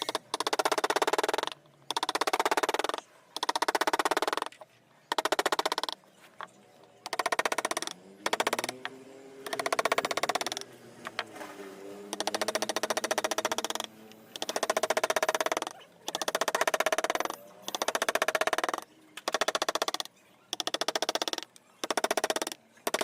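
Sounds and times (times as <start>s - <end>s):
carving tool rapid tapping on wood: 0.0s - 6.0s, 7.1s - 8.8s, 9.5s - 10.6s, 12.1s - 23.0s.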